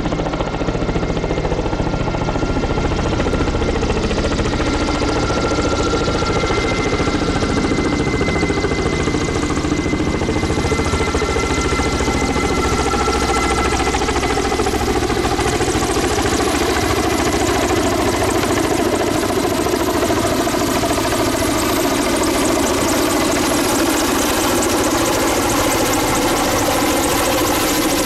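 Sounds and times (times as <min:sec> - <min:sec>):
helicopter flying low: 0:00.0 - 0:28.0.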